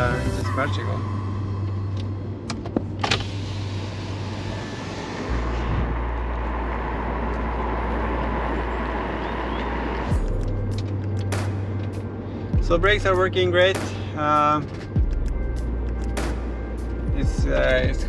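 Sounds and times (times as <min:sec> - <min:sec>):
road and tyre noise in car: 0:00.0 - 0:18.0.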